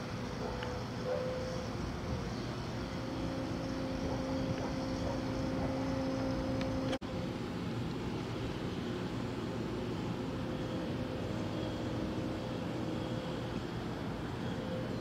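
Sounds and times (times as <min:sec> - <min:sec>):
distant street traffic rumble: 0:00.0 - 0:15.0
faint steady hum: 0:00.0 - 0:15.0.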